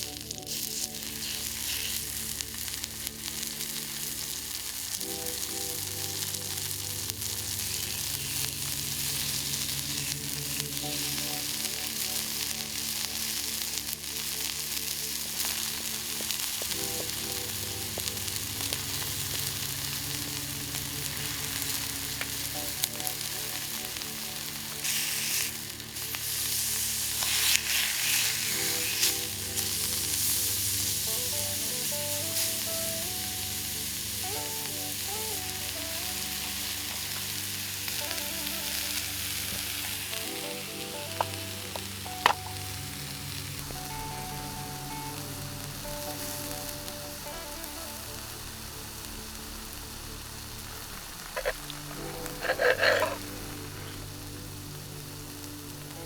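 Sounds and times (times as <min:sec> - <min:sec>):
background music: 0:00.0 - 0:56.0
campfire sizzling and crackling: 0:00.0 - 0:56.0.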